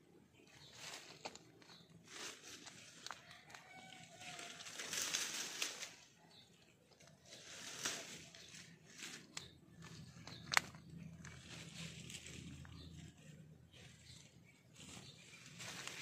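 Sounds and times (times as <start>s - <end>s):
vines rustling and crackling: 0.5s - 16.0s.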